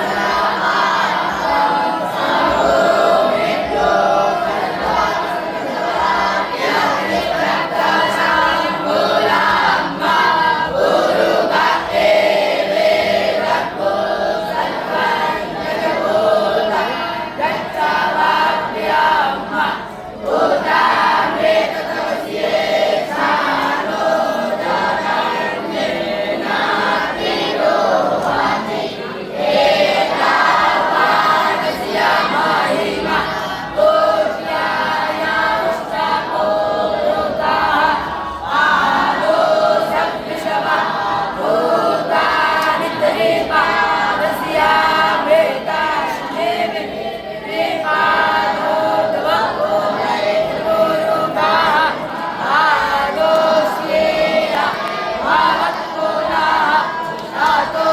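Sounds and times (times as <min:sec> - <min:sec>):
voices singing a chant: 0:00.0 - 0:57.9.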